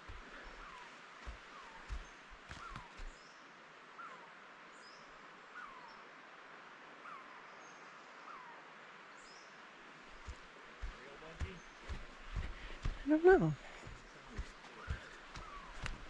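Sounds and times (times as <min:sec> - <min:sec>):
soft steady hiss: 0:00.0 - 0:16.0
faint high bird calls: 0:00.3 - 0:03.4, 0:04.0 - 0:06.0, 0:07.0 - 0:09.5, 0:10.2 - 0:16.0.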